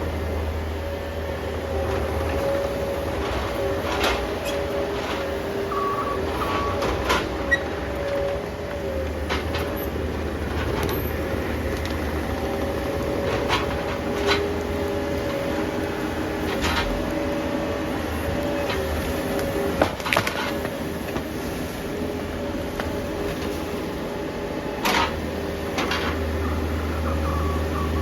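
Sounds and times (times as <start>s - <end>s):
heavy machinery rumbling: 0.0s - 28.0s
machinery whine: 0.0s - 28.0s.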